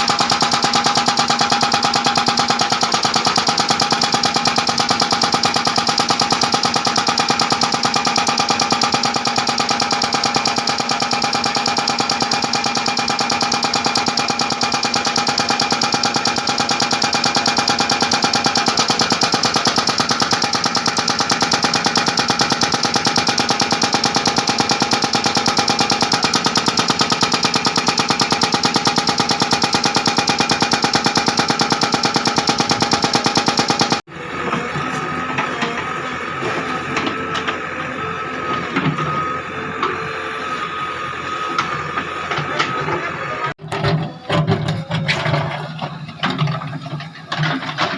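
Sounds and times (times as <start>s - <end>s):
hydraulic breaker hammering: 0.0s - 40.0s.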